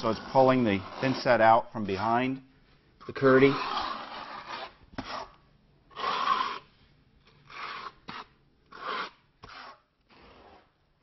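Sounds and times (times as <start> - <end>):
flat knife scraping membrane: 0.0 - 2.3, 3.0 - 6.7, 7.3 - 10.7.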